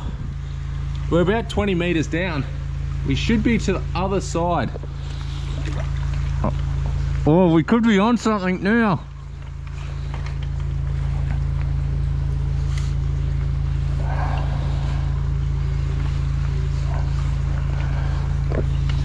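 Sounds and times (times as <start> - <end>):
drain jetter engine drone: 0.0 - 19.0.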